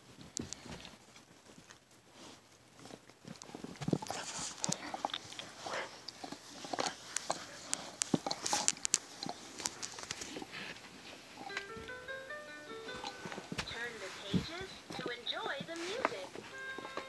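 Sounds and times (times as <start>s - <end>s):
puppies chewing hard chew toy: 0.3s - 17.0s.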